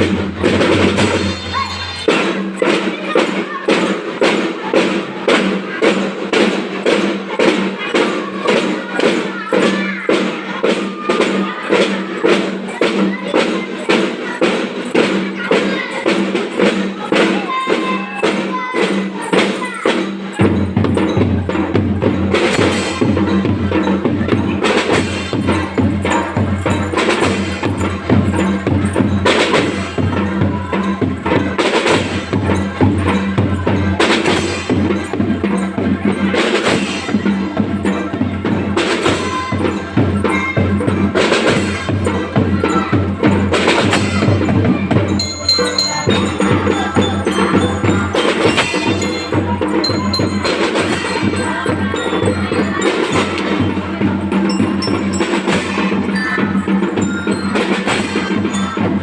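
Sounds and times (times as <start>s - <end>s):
marching percussion beating: 0.0s - 59.0s.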